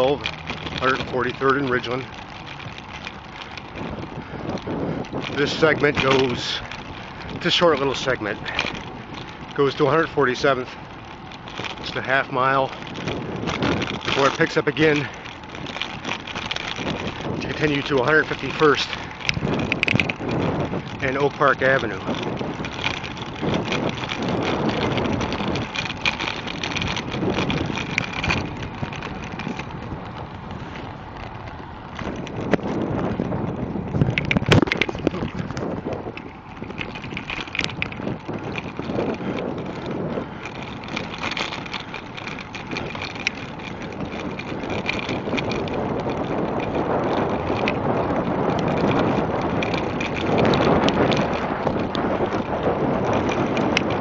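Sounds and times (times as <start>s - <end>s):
bicycle tyres rolling on asphalt: 0.0s - 54.0s
wind rushing over microphone: 0.0s - 54.0s.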